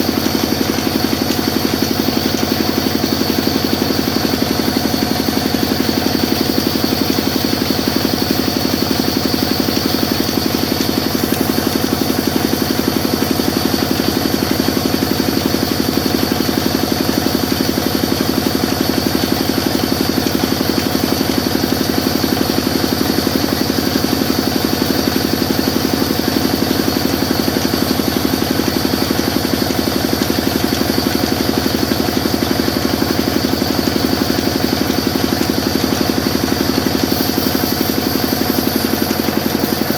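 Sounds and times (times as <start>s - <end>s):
sawmill machine humming: 0.0s - 39.9s.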